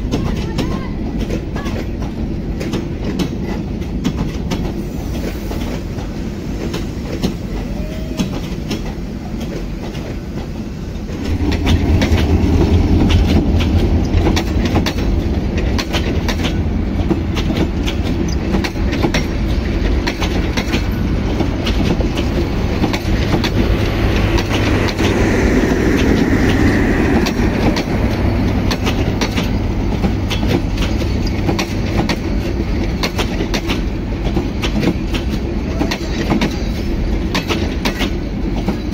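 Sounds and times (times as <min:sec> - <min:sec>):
wheels clacking over rail joints: 0:00.0 - 0:04.8, 0:05.6 - 0:25.5, 0:26.4 - 0:38.9
train wheels rumbling on rail: 0:00.0 - 0:38.9.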